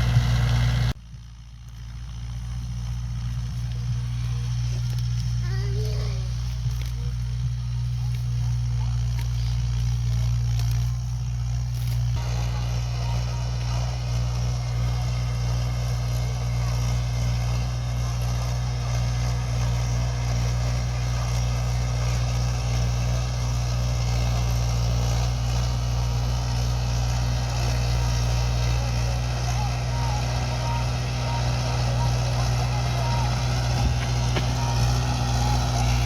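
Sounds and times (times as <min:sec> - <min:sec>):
rotavator machinery noise: 0:00.0 - 0:01.0, 0:01.6 - 0:36.0
tractor diesel engine drone: 0:00.0 - 0:36.0.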